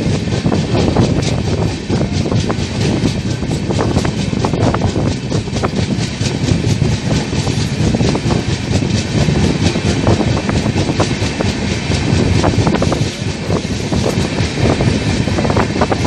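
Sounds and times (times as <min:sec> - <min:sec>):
train rumble: 0:00.0 - 0:16.0
wheels clattering over rail joints: 0:00.0 - 0:16.0.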